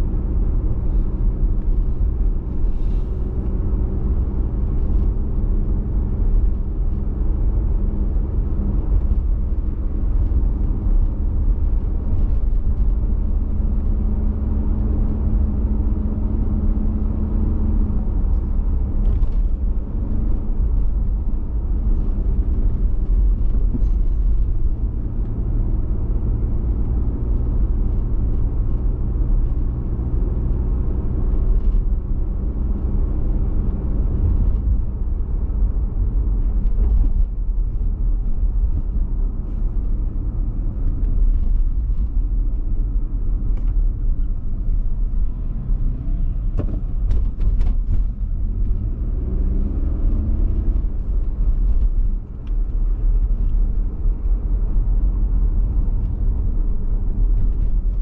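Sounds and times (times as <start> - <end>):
car engine hum: 0.0 - 58.0
tyre road rumble: 0.0 - 58.0.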